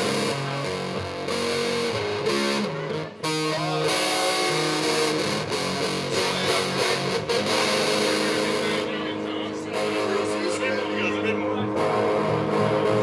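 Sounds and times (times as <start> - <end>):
live guitar music: 0.0 - 13.0.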